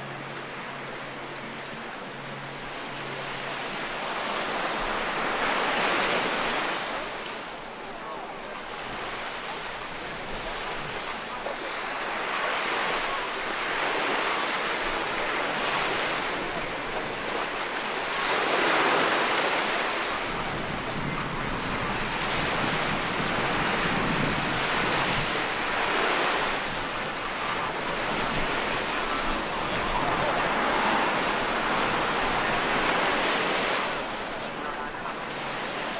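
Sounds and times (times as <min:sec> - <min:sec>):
ocean waves breaking: 0:00.0 - 0:35.9.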